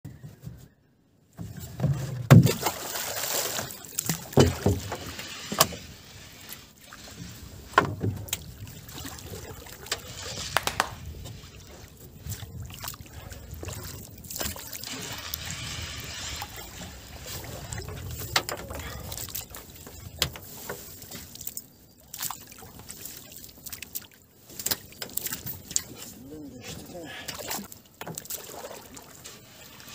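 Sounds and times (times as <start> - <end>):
fishing net rustling: 1.5 - 29.9
water splashing: 1.9 - 29.9.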